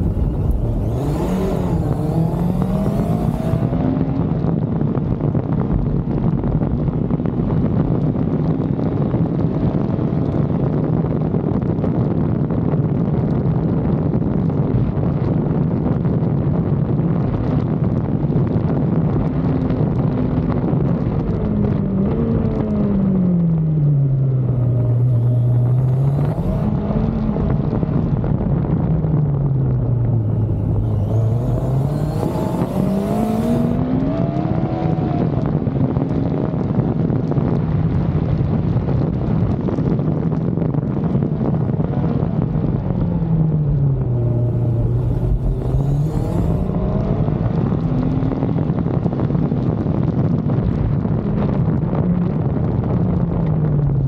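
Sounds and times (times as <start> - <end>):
motorcycle engine at speed: 0.0 - 54.0
wind rush on microphone: 0.0 - 54.0.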